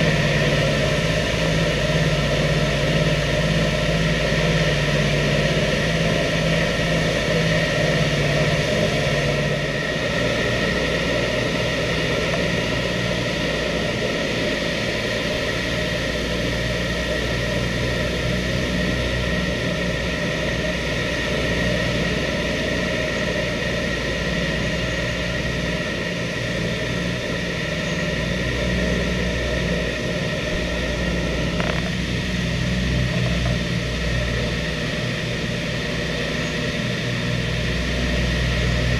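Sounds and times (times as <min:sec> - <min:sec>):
propeller aircraft engines droning: 0:00.0 - 0:38.9.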